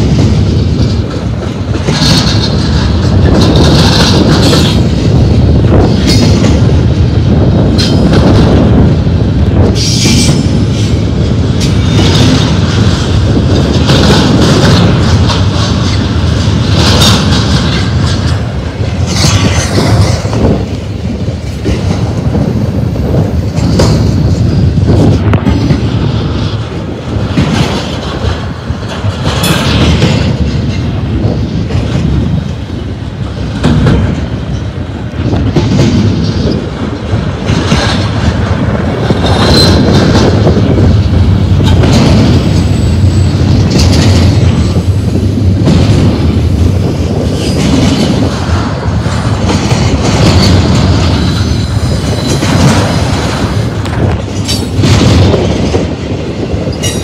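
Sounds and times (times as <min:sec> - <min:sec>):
steel wheels rumbling: 0:00.0 - 0:57.0
wheel trucks clacking over track: 0:00.0 - 0:57.0.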